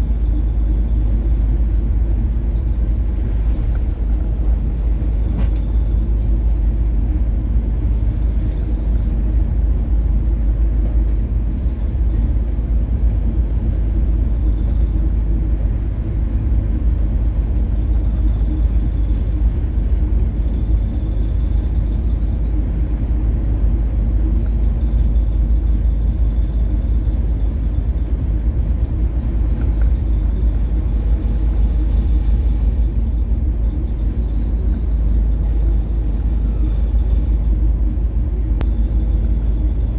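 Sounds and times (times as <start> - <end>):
ship engine hum: 0.0 - 39.9
ship rumbling in rough seas: 0.0 - 39.9.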